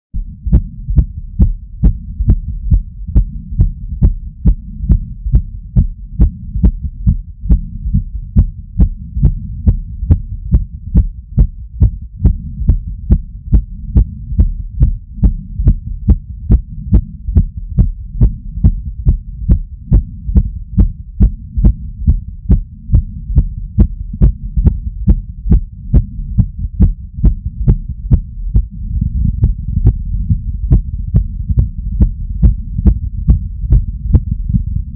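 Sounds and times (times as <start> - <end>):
steady low rumble: 0.1 - 34.9
fast heartbeat thumps: 0.2 - 34.9.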